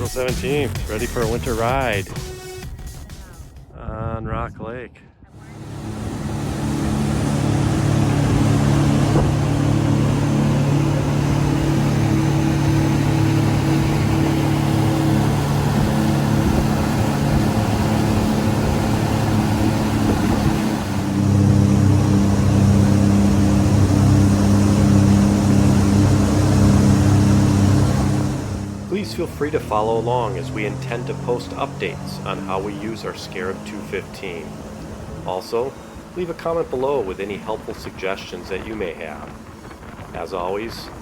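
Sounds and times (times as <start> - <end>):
boat engines running: 0.0 - 3.3, 5.3 - 41.0.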